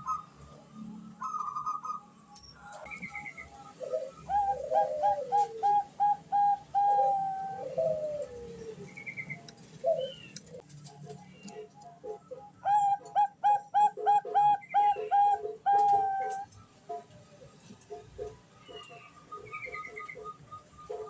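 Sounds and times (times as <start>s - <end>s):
dove cooing: 2.6s - 21.0s.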